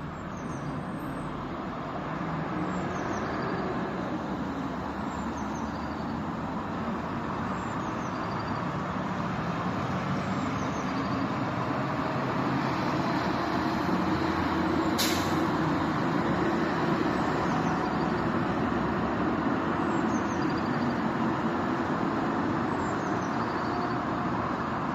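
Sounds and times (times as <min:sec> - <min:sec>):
city traffic rumble: 0:00.0 - 0:24.9.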